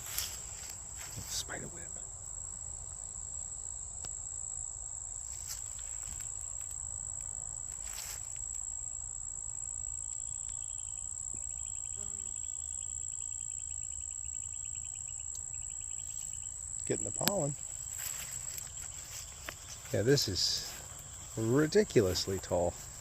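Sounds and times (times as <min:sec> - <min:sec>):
insect fast pulsed chirping: 0:00.0 - 0:23.0
insect high-pitched buzz: 0:00.0 - 0:23.0.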